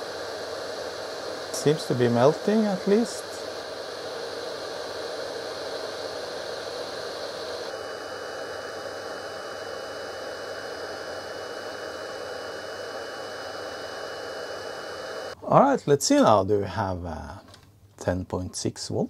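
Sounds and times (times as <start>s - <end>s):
hot air gun blowing: 0.0s - 15.4s.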